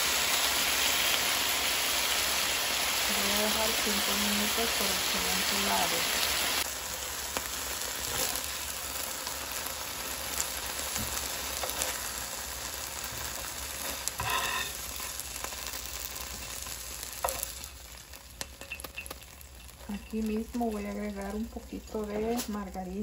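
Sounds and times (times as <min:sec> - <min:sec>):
meat sizzling in a frying pan: 0:00.0 - 0:23.0.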